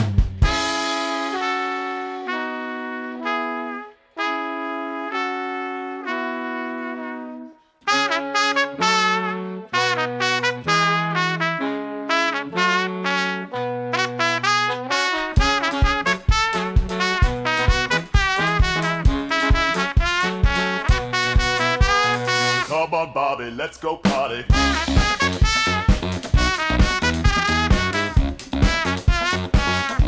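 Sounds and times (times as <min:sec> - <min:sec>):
bass saxophone bass line: 0:00.0 - 0:07.5, 0:08.6 - 0:23.0, 0:24.2 - 0:30.0
brass band playing: 0:00.0 - 0:22.9, 0:24.1 - 0:30.0.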